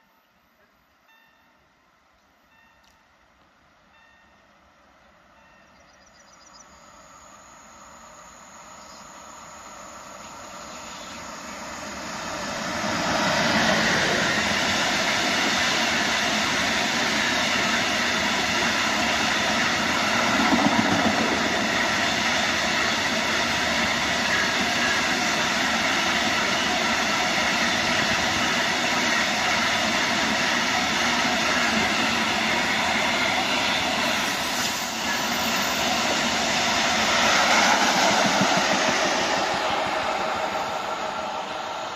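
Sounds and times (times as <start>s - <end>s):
freight train passing at speed: 0.0s - 41.9s.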